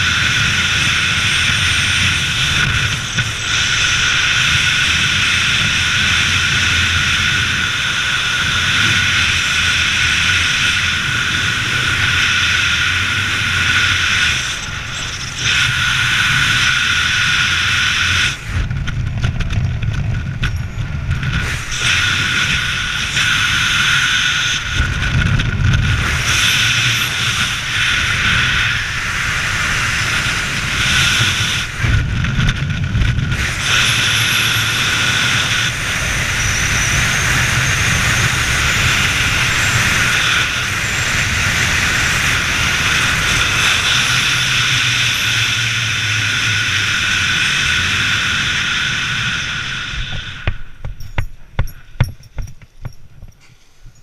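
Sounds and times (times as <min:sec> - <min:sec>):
air rushing over microphone: 0:00.0 - 0:52.0.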